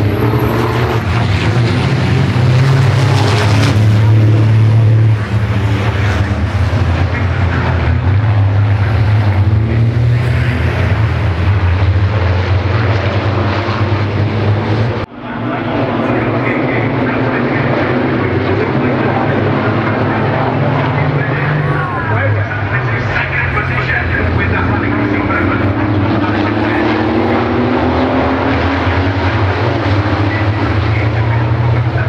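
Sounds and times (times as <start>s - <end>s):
diesel truck engines droning: 0.0s - 32.0s.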